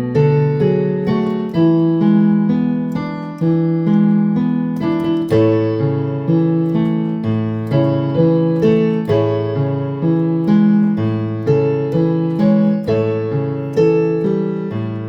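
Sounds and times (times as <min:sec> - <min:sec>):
electronic piano hymn chords: 0:00.0 - 0:15.0.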